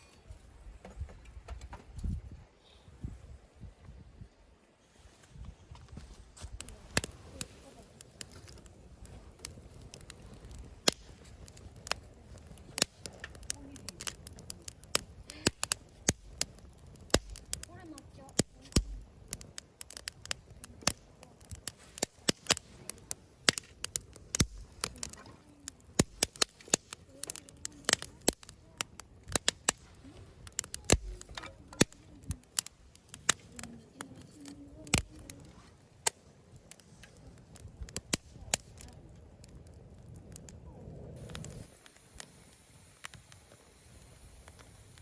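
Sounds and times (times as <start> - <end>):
campfire wood crackling: 0.0 - 45.0.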